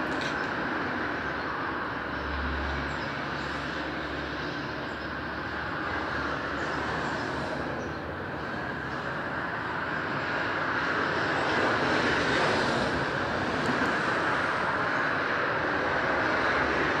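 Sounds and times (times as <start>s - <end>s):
motorway traffic rushing: 0.0s - 17.0s.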